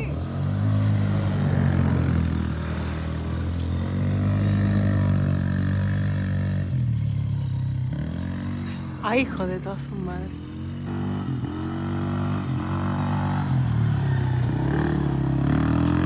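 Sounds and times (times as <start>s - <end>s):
quad engine revving: 0.0s - 7.2s, 7.9s - 16.0s.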